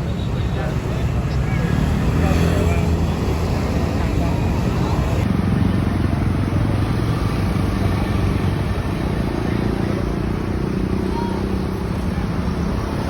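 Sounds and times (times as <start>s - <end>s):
road and traffic noise: 0.0s - 13.0s
vehicle engine running: 0.0s - 13.0s.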